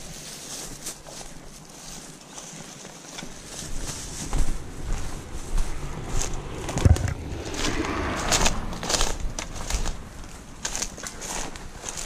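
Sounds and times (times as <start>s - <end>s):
dry stems crackling: 0.0s - 12.0s
footsteps through dry grass: 0.0s - 12.0s.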